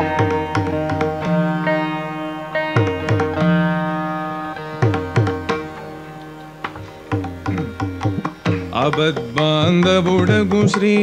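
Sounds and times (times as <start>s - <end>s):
hand drum strokes: 0.0s - 11.0s
plucked veena melody: 0.0s - 11.0s.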